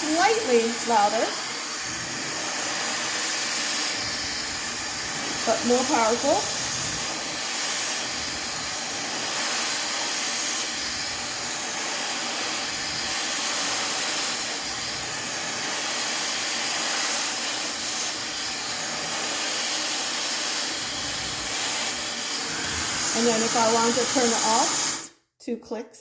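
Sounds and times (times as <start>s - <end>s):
hair dryer blowing: 0.0s - 25.2s.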